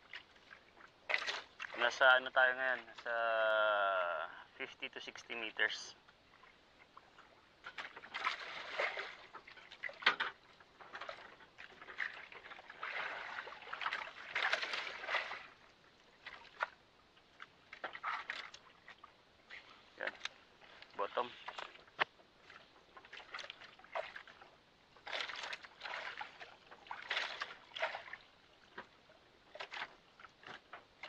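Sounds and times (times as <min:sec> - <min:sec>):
water splashing against boat: 0:00.0 - 0:31.0.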